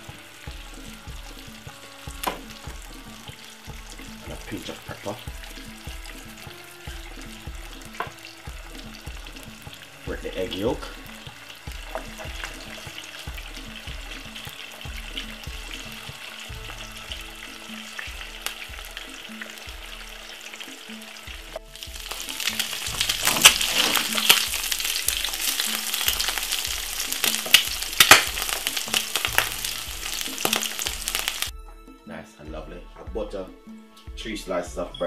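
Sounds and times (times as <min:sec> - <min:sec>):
egg sizzling in a pan: 0:00.0 - 0:31.5
background music with bass beat: 0:00.0 - 0:35.0.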